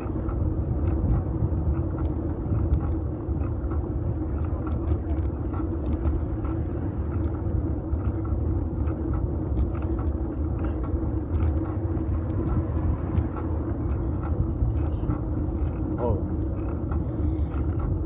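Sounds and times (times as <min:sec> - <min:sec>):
bike rolling on road rumble: 0:00.0 - 0:18.0
small clicks and ticks: 0:00.0 - 0:18.0.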